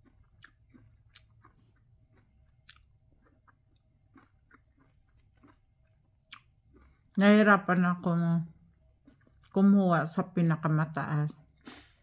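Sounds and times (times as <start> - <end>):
chewing corn: 0.0 - 9.6, 11.2 - 12.0.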